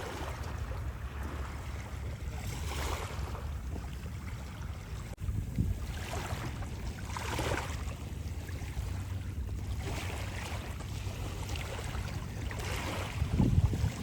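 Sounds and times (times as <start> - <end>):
sea waves washing in: 0.0 - 14.0
wind on microphone: 0.0 - 14.0.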